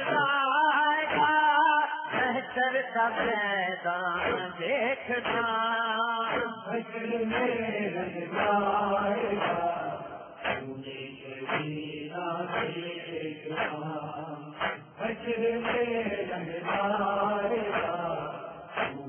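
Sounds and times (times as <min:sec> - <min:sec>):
man chanting a lament: 0:00.0 - 0:19.0.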